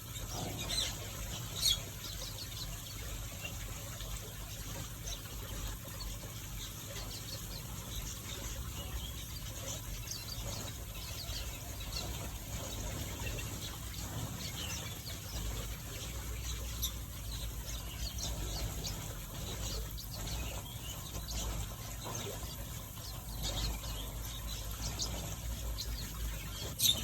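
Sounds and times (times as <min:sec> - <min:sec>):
finches chirping and twittering: 0:00.0 - 0:27.0.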